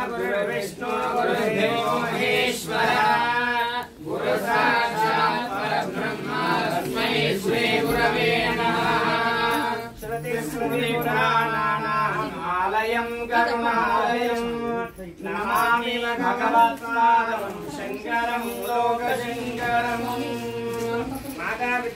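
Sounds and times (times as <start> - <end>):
group chanting a hymn: 0.0 - 21.9.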